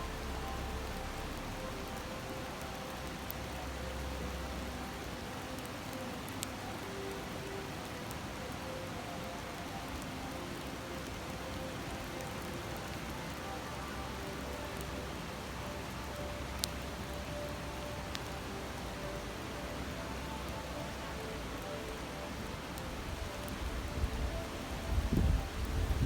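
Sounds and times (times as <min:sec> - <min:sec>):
campfire popping and crackling: 0:00.0 - 0:26.0
river rushing: 0:00.0 - 0:26.0.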